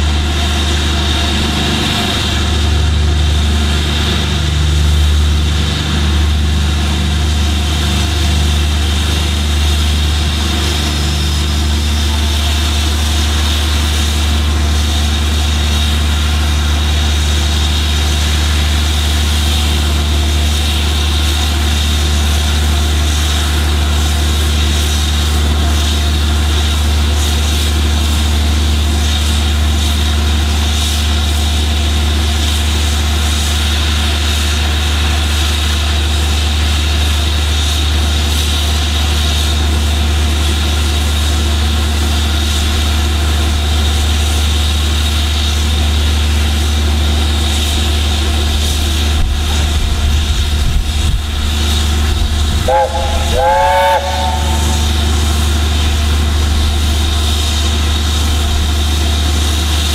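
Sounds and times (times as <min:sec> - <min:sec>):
steam hissing: 0:00.0 - 0:59.9
steam locomotive rumble: 0:00.0 - 0:59.9.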